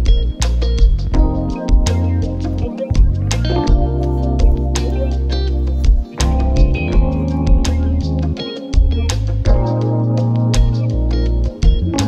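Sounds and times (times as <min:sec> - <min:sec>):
music with beat and bass: 0:00.0 - 0:12.0.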